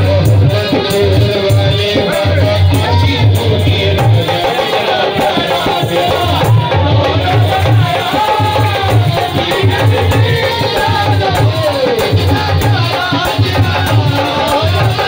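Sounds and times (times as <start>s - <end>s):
hand drum beat: 0.0s - 15.0s
men singing: 0.0s - 15.0s.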